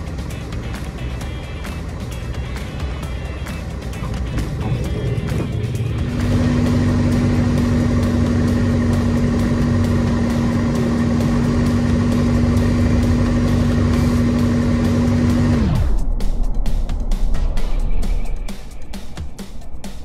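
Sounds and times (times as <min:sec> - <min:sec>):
light plane engine drone: 0:00.0 - 0:20.0.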